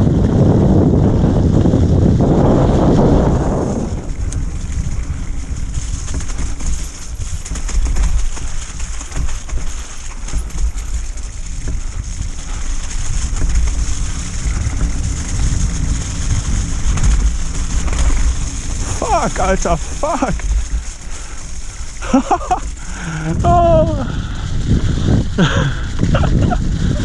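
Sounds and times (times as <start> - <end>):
bike rattling over bumps: 0.0 - 27.0
tyres rumbling on trail: 0.0 - 27.0
wind buffeting microphone: 0.0 - 27.0.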